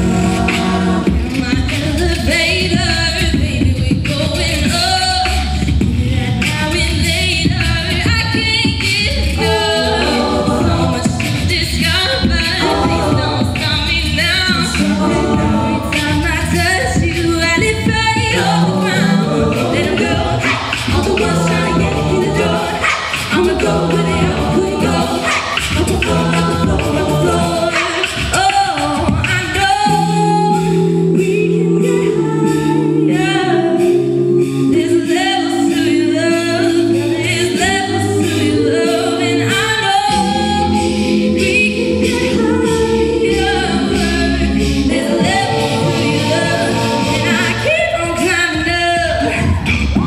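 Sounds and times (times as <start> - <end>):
a cappella group singing: 0.0 - 50.0
vocal percussion beat: 0.0 - 50.0.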